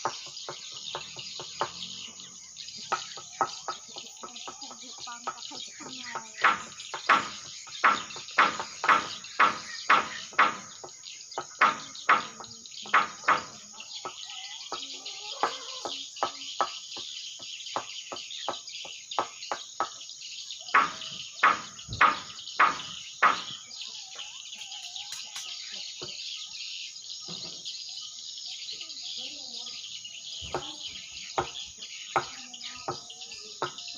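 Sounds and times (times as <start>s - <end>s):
sharp bird chirps: 0.0s - 33.9s
steady high twittering: 0.0s - 33.9s.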